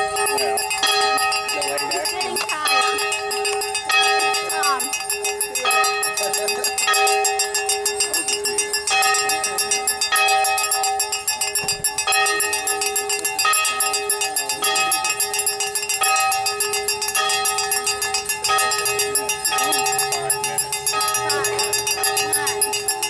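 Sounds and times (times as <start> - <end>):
bells jangling rapidly: 0.0 - 23.0
fuller bell tone: 0.0 - 23.0.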